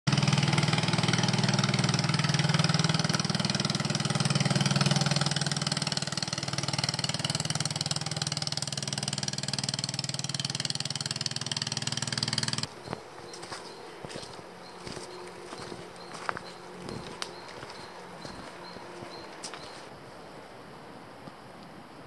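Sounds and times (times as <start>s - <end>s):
engine running: 0.1s - 19.9s.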